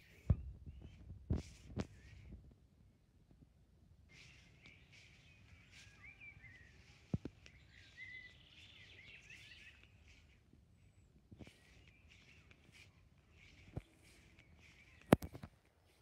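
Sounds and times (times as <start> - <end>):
small birds chirping: 0.0 - 2.4, 4.0 - 16.0.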